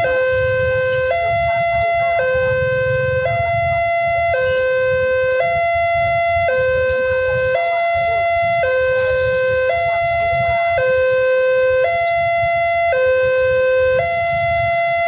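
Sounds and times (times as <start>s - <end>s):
motorcycle engines rumbling: 0.0s - 15.0s
two-tone level crossing alarm: 0.0s - 15.0s.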